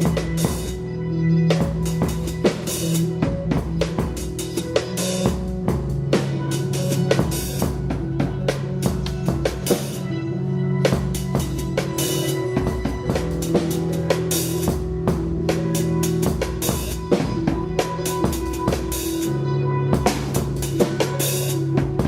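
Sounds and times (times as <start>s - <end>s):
live band instrumental: 0.0s - 22.0s.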